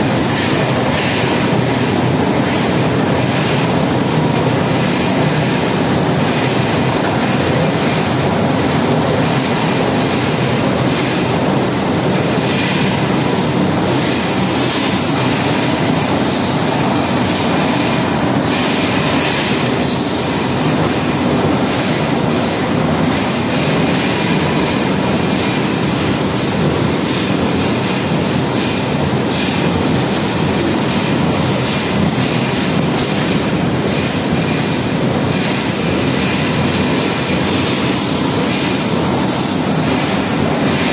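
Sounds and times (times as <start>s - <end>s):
printing machine running: 0.0s - 40.9s.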